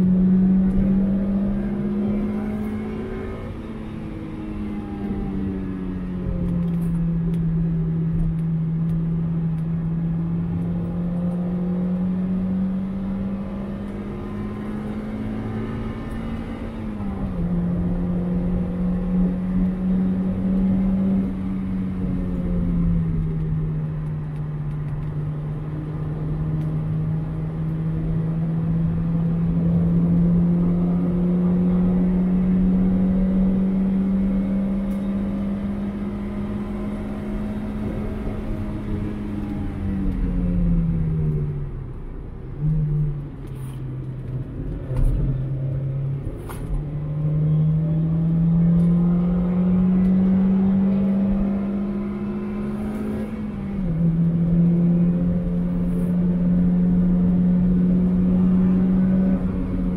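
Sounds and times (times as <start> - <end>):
car engine at high revs: 0.0 - 59.9
road and tyre rumble: 0.0 - 59.9.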